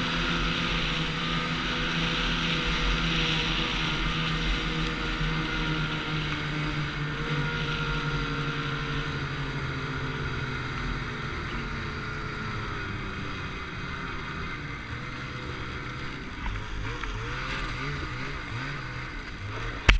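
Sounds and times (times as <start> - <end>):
snowmobile engine running: 0.0 - 19.9.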